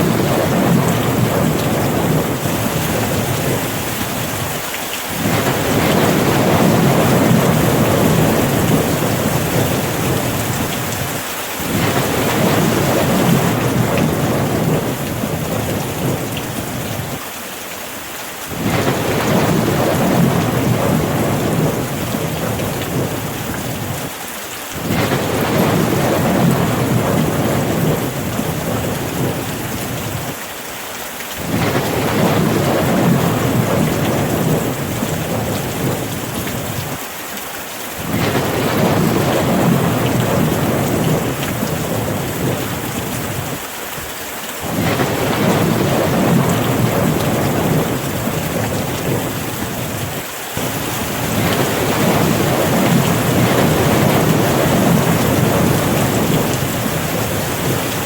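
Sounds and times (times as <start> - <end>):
low rumble of thunder: 0.0 - 17.2, 18.5 - 24.1, 24.8 - 30.4, 31.4 - 37.0, 38.0 - 43.7, 44.6 - 58.0
steady rain falling: 0.0 - 58.0.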